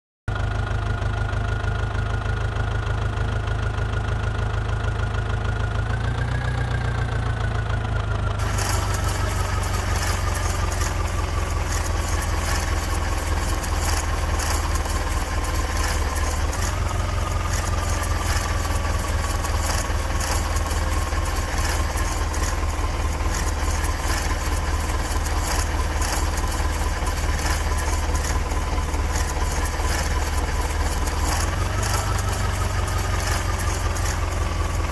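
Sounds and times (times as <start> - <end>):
heavy diesel engine running: 0.3 - 34.9.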